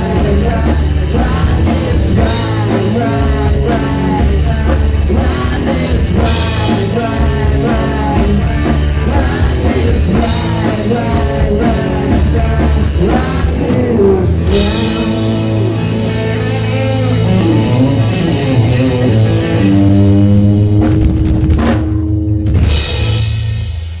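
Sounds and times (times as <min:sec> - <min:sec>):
electric guitar: 0:00.0 - 0:23.8
drum kit beat: 0:00.0 - 0:24.0
rock band playing: 0:00.0 - 0:24.0.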